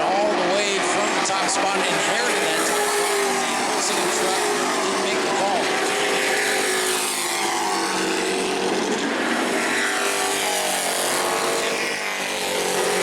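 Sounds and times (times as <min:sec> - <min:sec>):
racing truck engines at high revs: 0:00.0 - 0:13.0.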